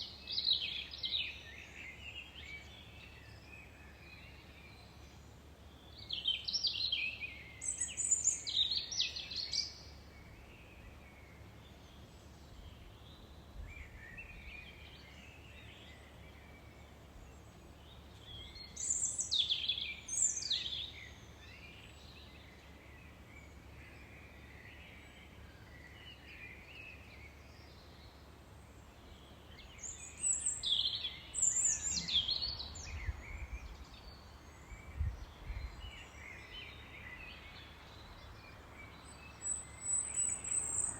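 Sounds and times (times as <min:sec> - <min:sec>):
background hiss: 0:00.0 - 0:40.9
songbird singing: 0:00.0 - 0:40.9.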